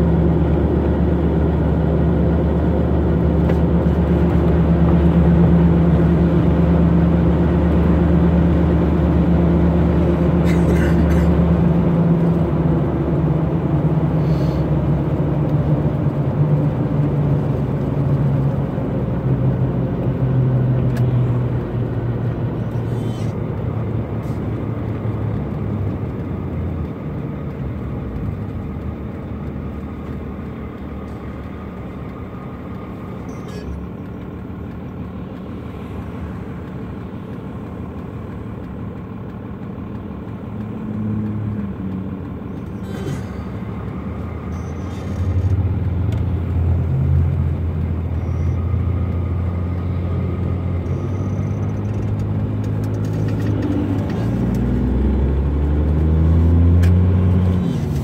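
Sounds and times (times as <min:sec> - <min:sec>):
diesel engine drone in cab: 0:00.0 - 0:58.0.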